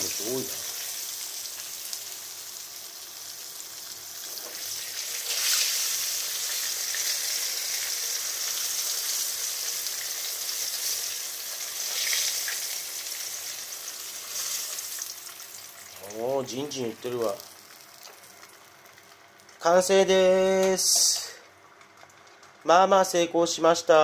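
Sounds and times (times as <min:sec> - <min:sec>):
tofu sizzling in hot oil: 0:00.0 - 0:19.7.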